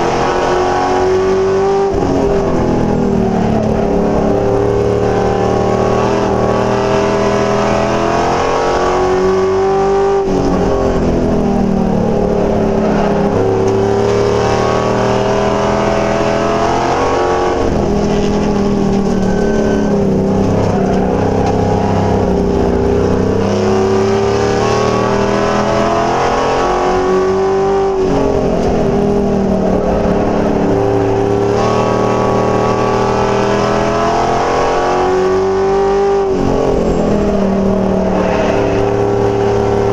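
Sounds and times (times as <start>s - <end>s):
racing truck engine: 0.0s - 39.9s.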